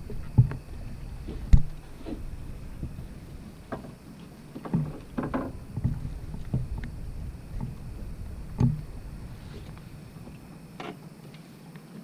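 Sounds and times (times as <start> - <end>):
low rumble: 0.0 - 10.8
water slapping against boat hull: 0.0 - 11.0.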